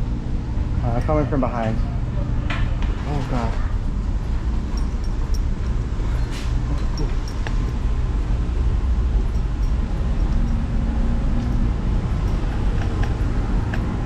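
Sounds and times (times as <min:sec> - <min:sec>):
train rumbling: 0:02.0 - 0:14.0.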